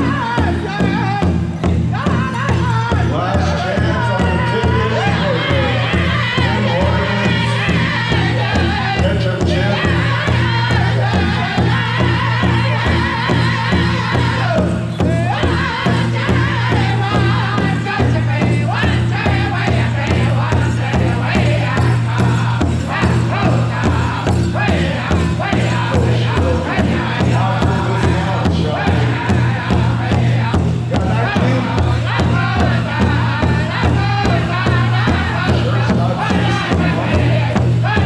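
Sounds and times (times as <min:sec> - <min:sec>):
group singing in high voices: 0:00.0 - 0:38.0
steady bass drum beat: 0:00.0 - 0:38.0.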